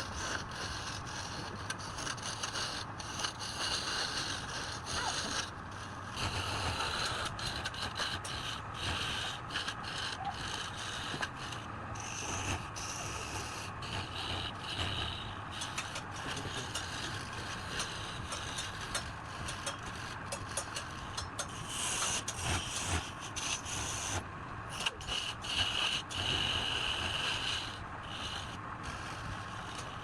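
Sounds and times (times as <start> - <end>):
tool scraping against wood: 0.0 - 30.0.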